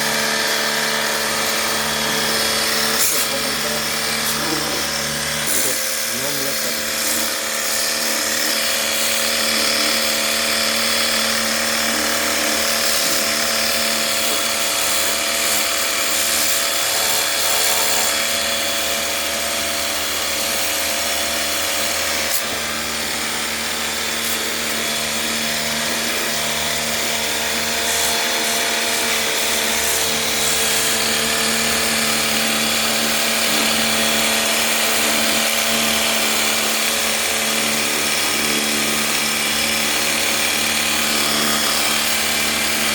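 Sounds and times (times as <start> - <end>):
pressure washer motor hum: 0.0 - 42.9.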